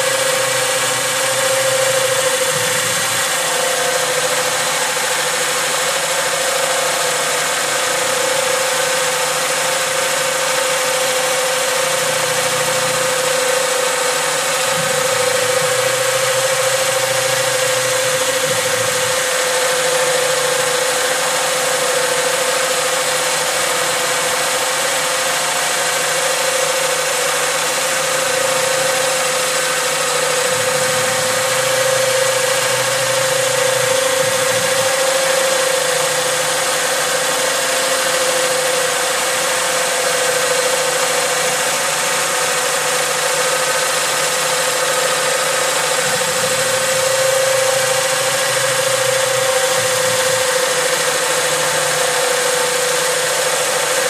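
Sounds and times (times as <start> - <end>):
lathe humming and whining: 0.0 - 54.0.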